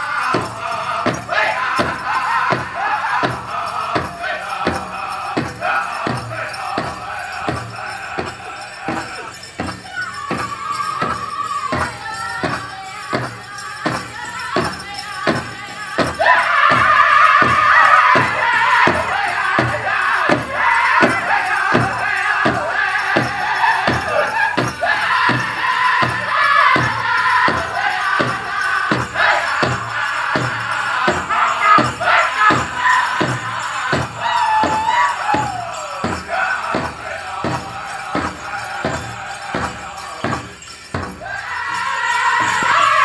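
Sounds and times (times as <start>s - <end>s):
big drum beaten steadily: 0.0s - 43.0s
people singing: 0.0s - 43.0s.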